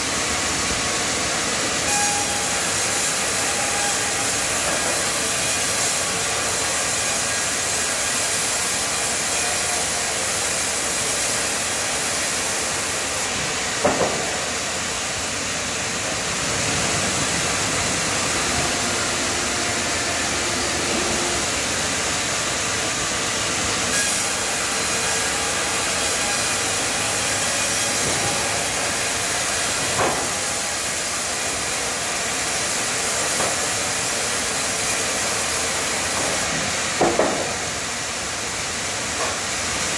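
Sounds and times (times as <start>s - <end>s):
band saw cutting log: 1.8s - 14.5s, 16.4s - 37.7s.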